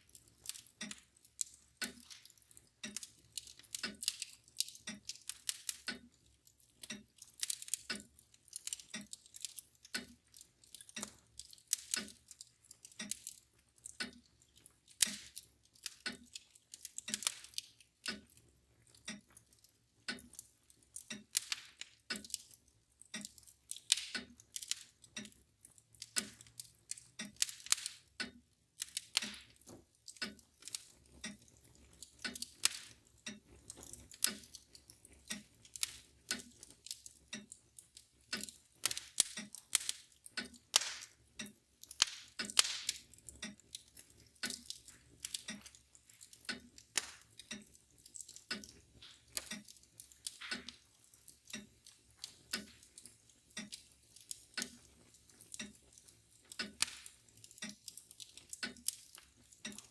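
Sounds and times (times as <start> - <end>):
fire crackling and popping: 0.0 - 59.9
mantel clock ticking: 0.0 - 59.9.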